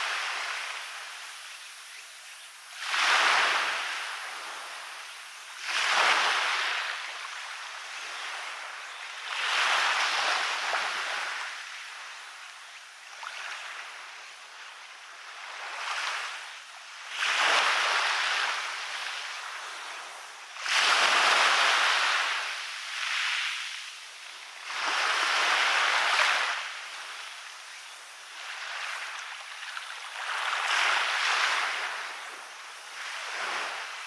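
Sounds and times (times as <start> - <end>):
waves breaking on beach: 0.0 - 1.6, 2.6 - 34.0.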